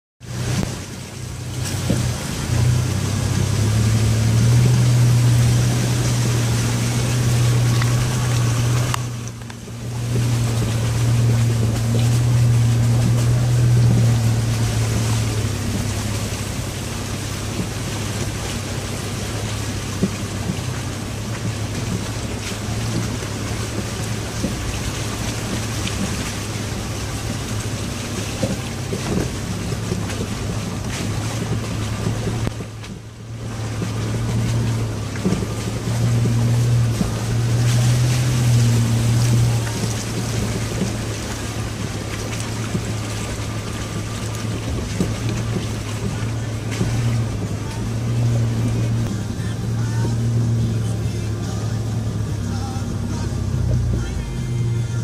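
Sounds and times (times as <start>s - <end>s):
suv engine droning: 0.2s - 55.0s
water and tyre noise: 0.2s - 55.0s.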